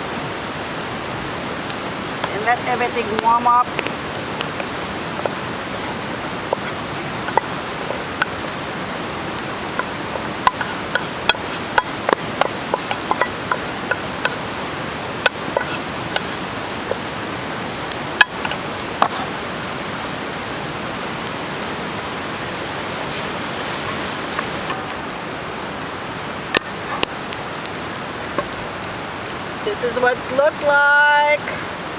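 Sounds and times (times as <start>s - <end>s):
campfire crackling and popping: 0.0s - 31.9s
steady rushing hiss: 0.0s - 31.9s.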